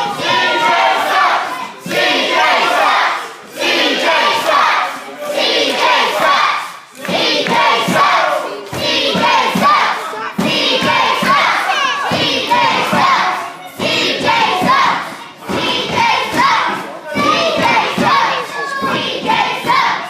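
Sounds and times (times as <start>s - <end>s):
children's voices: 0.0s - 20.0s.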